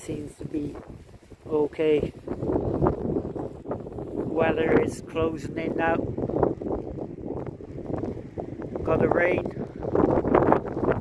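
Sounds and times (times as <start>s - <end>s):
wind gusting across microphone: 0.0s - 11.0s.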